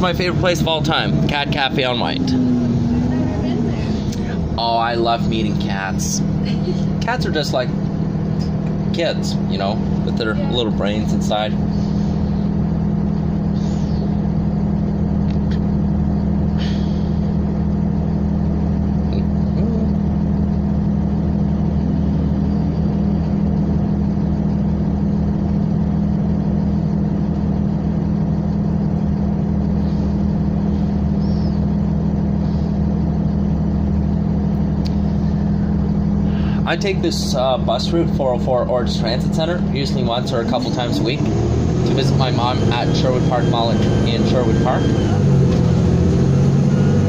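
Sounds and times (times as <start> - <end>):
bus idling low hum: 0.0 - 47.0.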